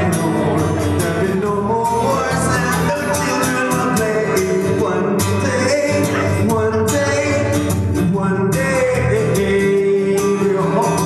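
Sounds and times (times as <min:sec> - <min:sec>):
acoustic guitar strumming: 0:00.0 - 0:11.0
person singing: 0:00.0 - 0:11.0.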